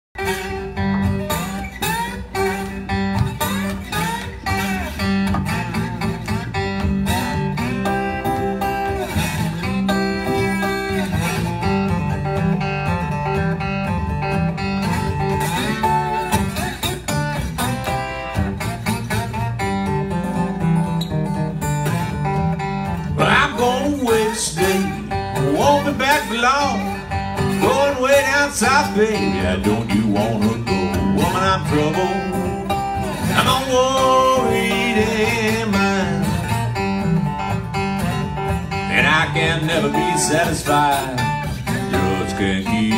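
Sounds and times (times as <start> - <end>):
slide acoustic guitar blues: 0.2 - 42.9.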